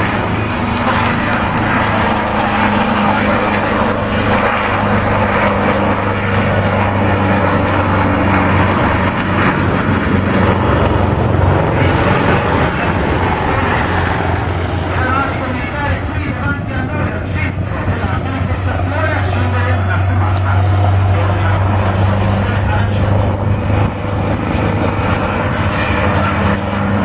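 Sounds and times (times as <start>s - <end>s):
helicopter turbine and rotor noise: 0.0s - 27.0s.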